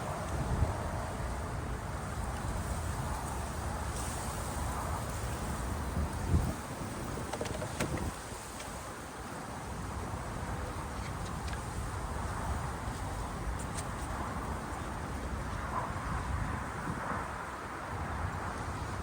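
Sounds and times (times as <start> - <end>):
constant outdoor hiss: 0.0 - 19.0
wind buffeting microphone: 0.0 - 19.0.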